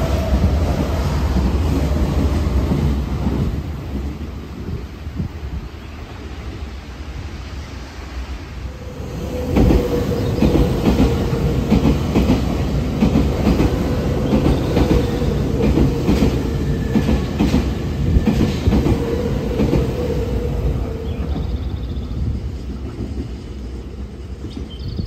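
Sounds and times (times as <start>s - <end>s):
steady train tone: 0.0s - 25.0s.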